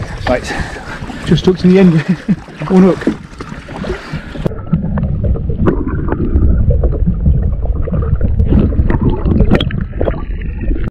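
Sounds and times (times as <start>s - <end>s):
underwater sloshing and gurgling: 0.0s - 10.9s.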